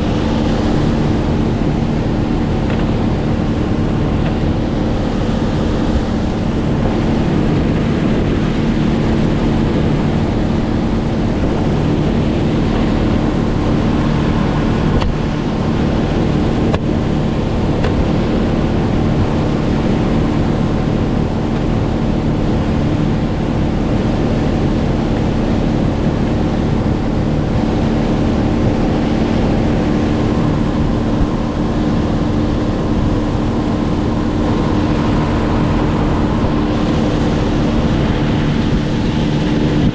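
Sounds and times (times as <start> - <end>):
engine droning: 0.0 - 39.9
rushing wind: 0.0 - 39.9
water noise: 0.0 - 39.9.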